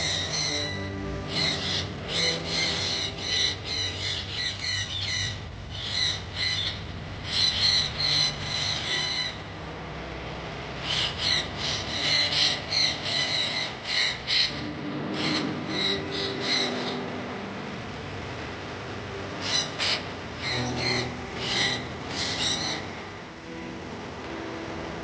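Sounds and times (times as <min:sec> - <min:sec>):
birds squawking: 0:00.0 - 0:09.5, 0:10.8 - 0:17.4, 0:19.2 - 0:23.2.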